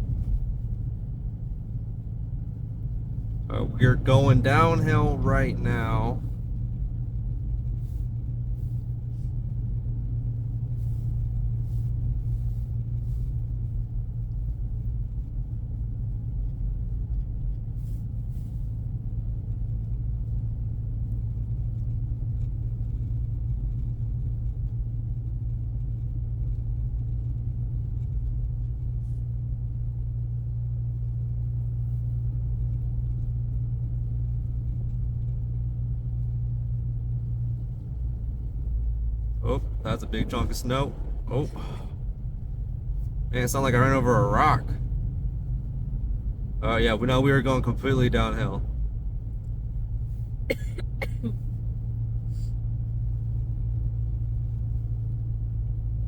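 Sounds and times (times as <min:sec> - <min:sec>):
low rumble of engine and tyres: 0:00.0 - 0:56.0.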